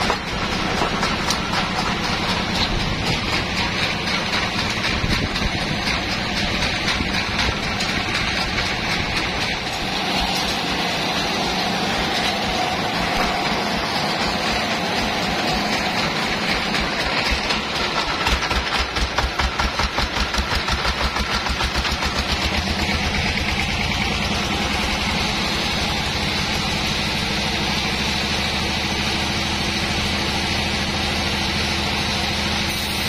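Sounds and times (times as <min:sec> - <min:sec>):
sawmill machinery drone: 0:00.0 - 0:33.0.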